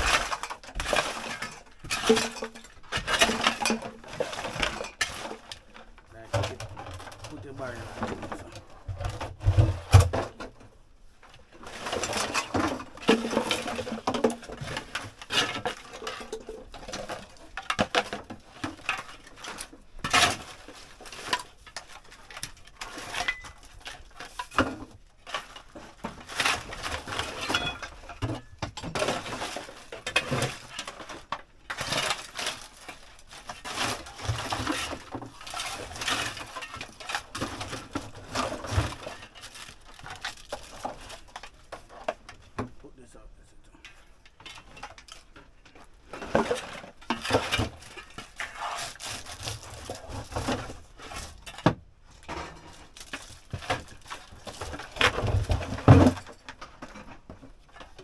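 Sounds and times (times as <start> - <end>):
junk items clattering: 0.0 - 58.0
rustling and scraping: 0.0 - 58.0.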